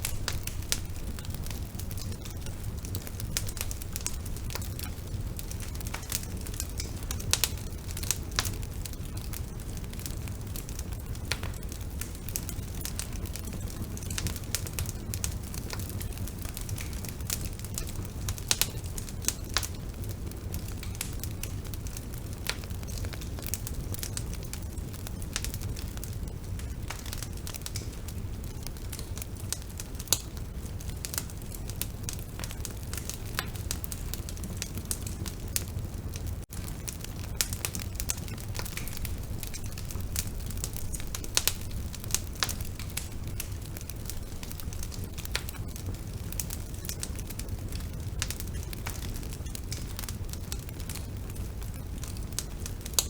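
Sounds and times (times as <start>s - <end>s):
burning wood crackling: 0.0s - 53.0s
low rumble of flames: 0.0s - 53.0s.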